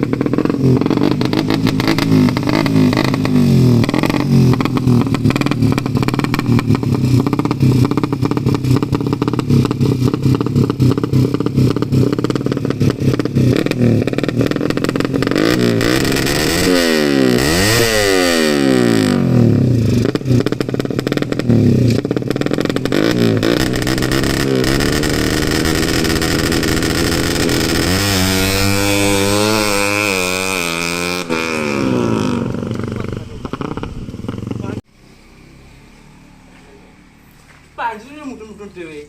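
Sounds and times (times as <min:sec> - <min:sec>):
motorcycle engine revving hard: 0:00.0 - 0:35.7.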